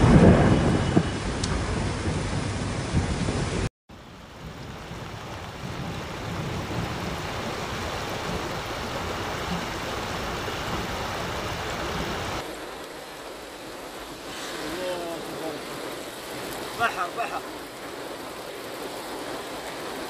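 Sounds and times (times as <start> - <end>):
floodwater rushing: 1.4 - 20.0.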